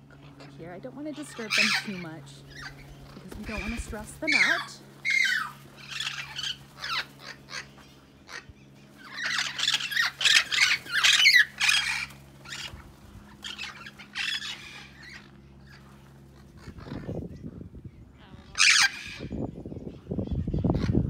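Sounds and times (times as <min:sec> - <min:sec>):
parrots squawking: 0:00.1 - 0:21.0.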